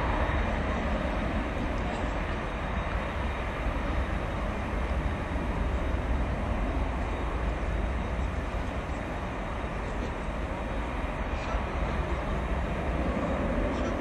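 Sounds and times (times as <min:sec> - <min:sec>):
faint high whine: 0:00.0 - 0:14.0
jet engines rushing: 0:00.0 - 0:14.0.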